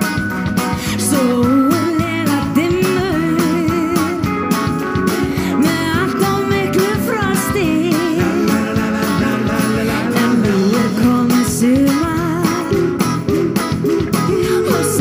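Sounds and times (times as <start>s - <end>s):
pop-rock band playing: 0.0s - 15.0s
woman singing: 0.8s - 4.4s, 5.3s - 13.0s, 14.3s - 15.0s.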